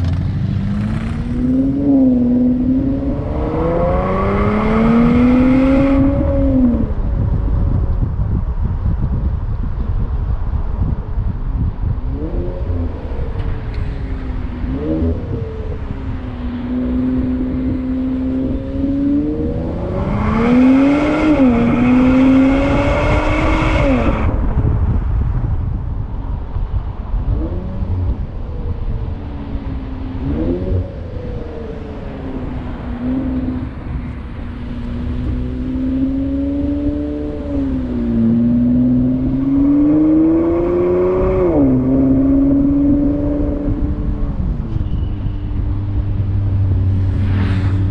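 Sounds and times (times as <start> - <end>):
car engine revving: 0.0 - 7.4, 12.1 - 24.9, 27.3 - 47.9
steady low rumble: 0.0 - 47.9.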